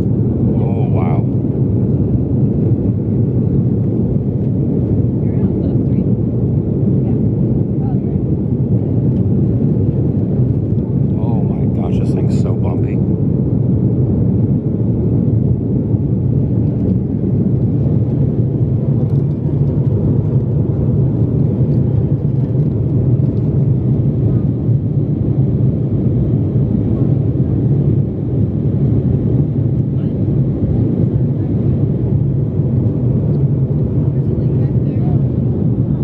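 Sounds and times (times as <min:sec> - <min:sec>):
airliner cabin engine noise: 0:00.0 - 0:36.0.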